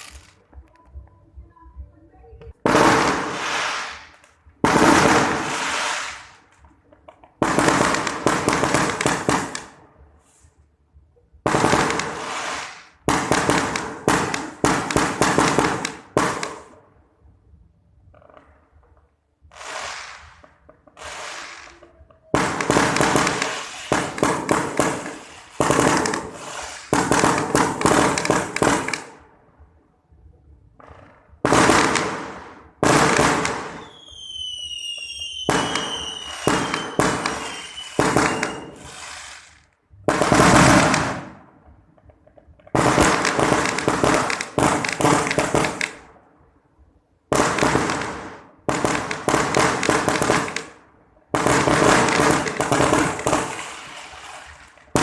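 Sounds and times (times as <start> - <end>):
fireworks cracking and crackling: 0.0 - 1.0, 2.3 - 10.6, 11.4 - 16.8, 18.1 - 29.8, 30.8 - 46.2, 47.3 - 55.0.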